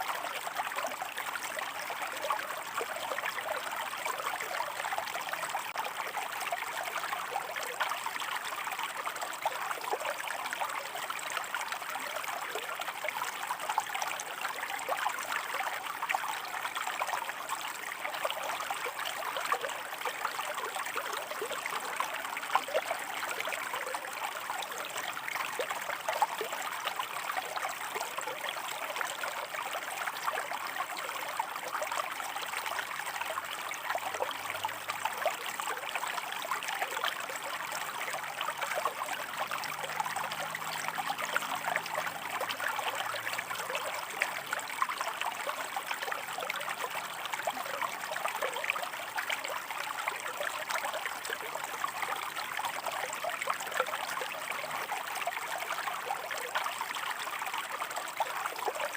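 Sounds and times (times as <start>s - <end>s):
stream water running over rocks: 0.0s - 58.9s.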